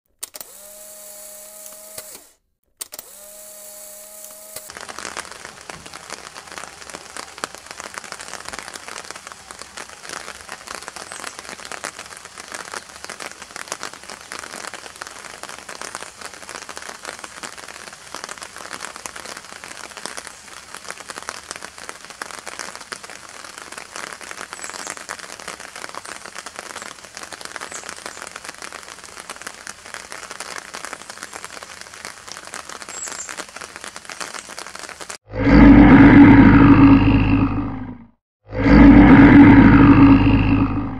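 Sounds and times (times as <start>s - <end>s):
heavy rain falling: 3.8s - 37.8s, 38.5s - 40.9s.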